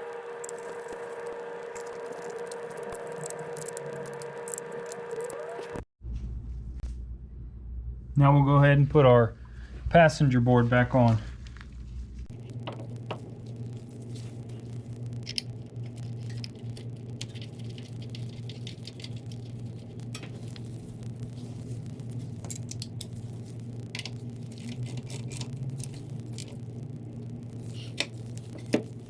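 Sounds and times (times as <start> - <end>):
low hum: 0.0 - 9.8, 11.6 - 29.0.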